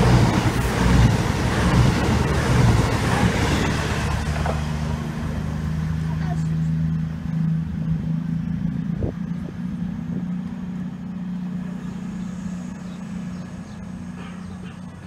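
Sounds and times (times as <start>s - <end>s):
diesel train engines droning: 0.0s - 15.0s.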